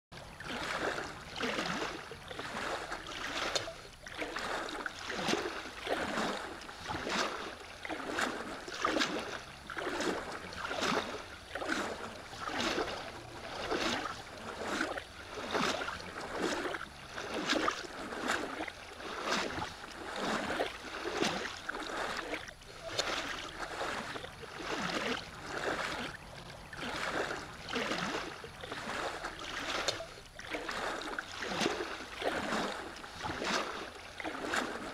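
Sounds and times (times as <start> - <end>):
water swishing along hull: 0.1 - 34.9
kayak paddle strokes: 0.2 - 34.9.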